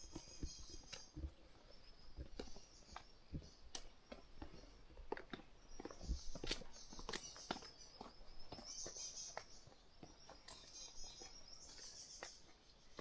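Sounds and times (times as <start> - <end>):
footsteps on a trail: 0.0 - 13.0.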